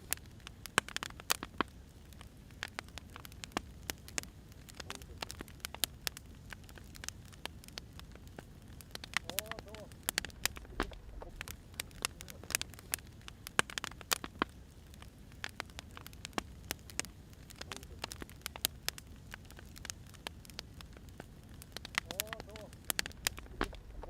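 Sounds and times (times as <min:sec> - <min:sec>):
firewood crackling and popping: 0:00.0 - 0:24.0
low rumble of fire: 0:00.0 - 0:24.0.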